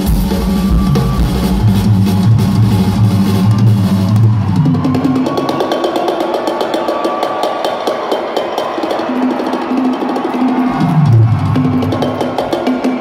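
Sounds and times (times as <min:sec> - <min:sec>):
rock drum solo: 0:00.0 - 0:13.0.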